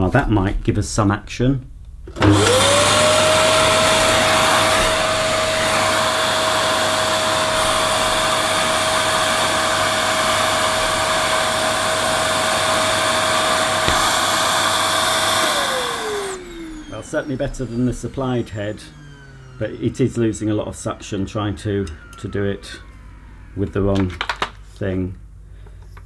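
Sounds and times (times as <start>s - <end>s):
vacuum cleaner motor whining: 2.1s - 24.5s.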